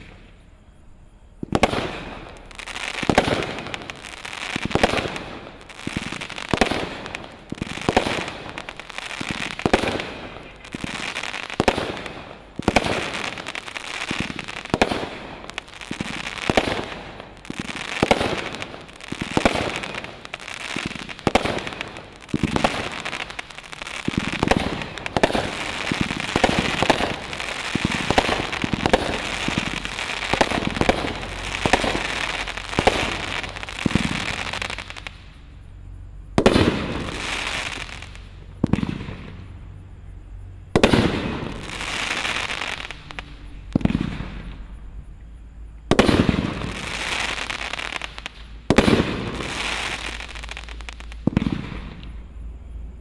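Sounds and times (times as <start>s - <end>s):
firework shots popping and bursting: 1.4s - 35.7s, 36.3s - 39.6s, 40.7s - 44.9s, 45.9s - 52.4s.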